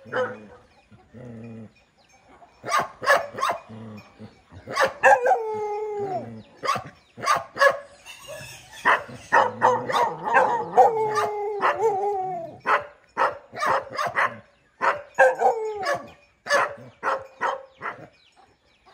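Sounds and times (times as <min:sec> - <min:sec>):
dogs barking: 0:00.0 - 0:01.2, 0:02.3 - 0:18.2.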